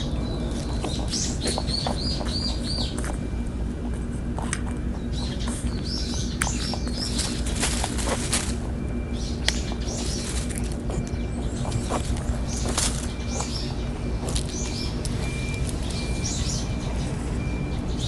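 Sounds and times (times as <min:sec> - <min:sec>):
songbird chirping: 0:00.0 - 0:03.9, 0:04.6 - 0:18.0
low background rumble: 0:00.0 - 0:18.0.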